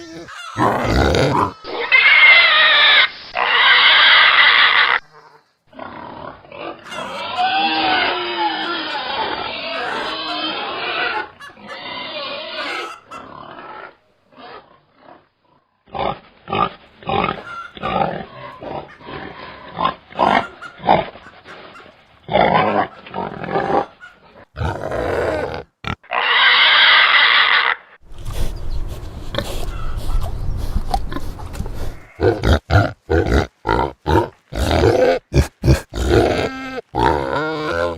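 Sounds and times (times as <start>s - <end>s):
pigs grunting and oinking: 0.0s - 37.9s.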